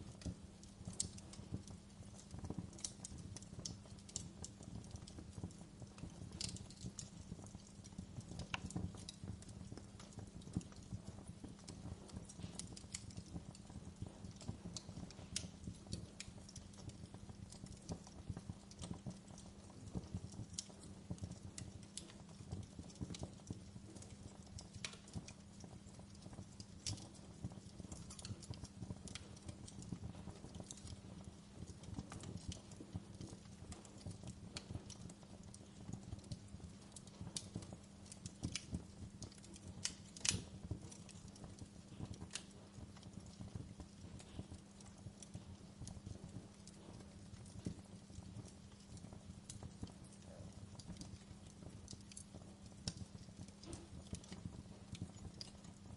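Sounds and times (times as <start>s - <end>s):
low rumble of burning: 0.0s - 55.9s
wood fire crackling and popping: 0.0s - 55.9s.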